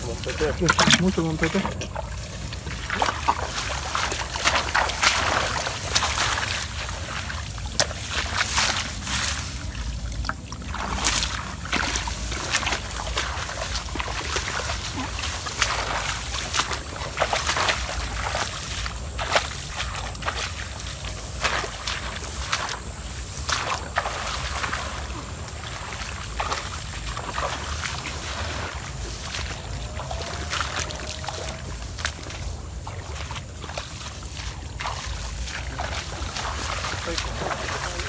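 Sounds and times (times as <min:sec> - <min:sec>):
rubber boots squelching through wet grass: 0:00.0 - 0:38.0.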